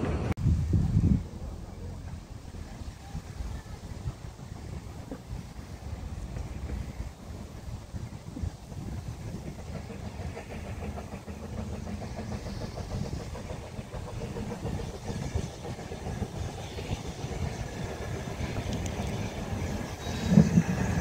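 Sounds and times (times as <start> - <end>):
train carriages rumbling and rattling: 0.0 - 21.0.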